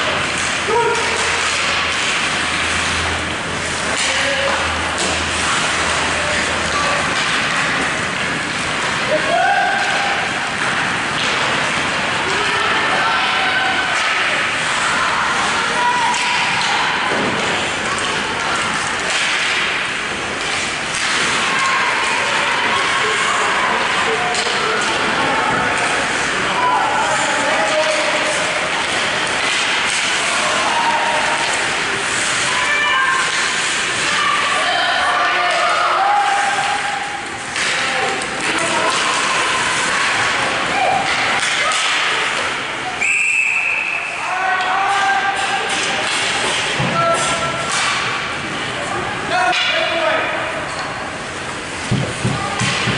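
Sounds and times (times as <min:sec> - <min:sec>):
hockey sticks and puck knocking: 0:00.0 - 0:12.6, 0:13.2 - 0:42.6, 0:44.6 - 0:48.3, 0:51.7 - 0:52.9
skates scraping on ice: 0:00.0 - 0:42.6
voices of players and spectators: 0:00.0 - 0:52.9.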